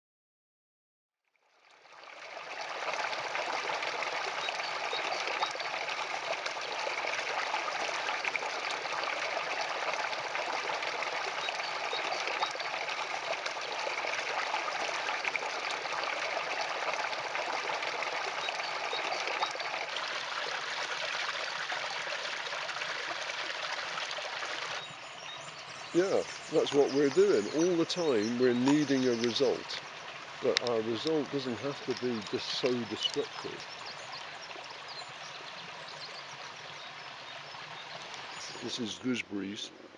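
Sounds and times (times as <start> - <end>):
water trickling: 1.4 - 39.9.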